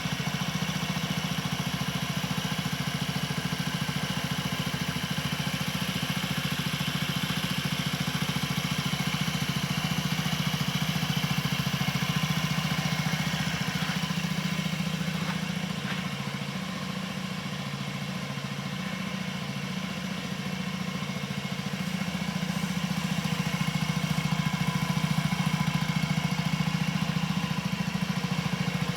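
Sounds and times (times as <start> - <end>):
scooter engine idling: 0.0 - 28.9.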